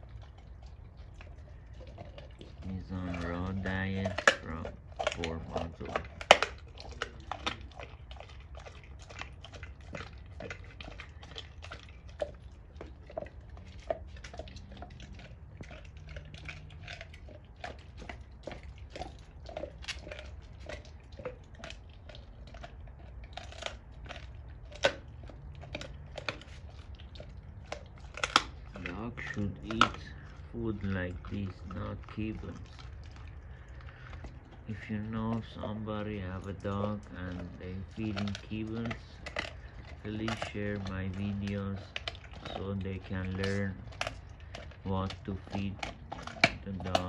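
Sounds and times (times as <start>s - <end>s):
dog chewing bone: 0.0s - 47.0s.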